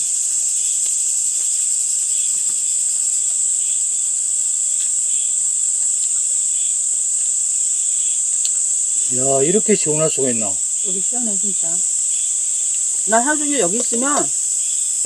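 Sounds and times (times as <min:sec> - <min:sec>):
insect chorus trilling: 0:00.0 - 0:15.0.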